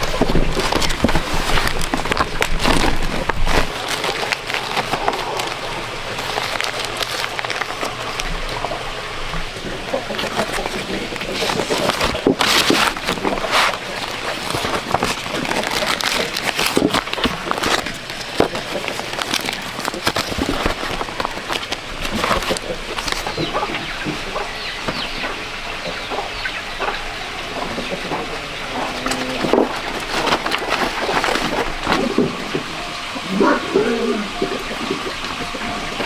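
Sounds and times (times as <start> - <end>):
chickens clucking: 0.0 - 36.0
rustling: 0.0 - 36.0.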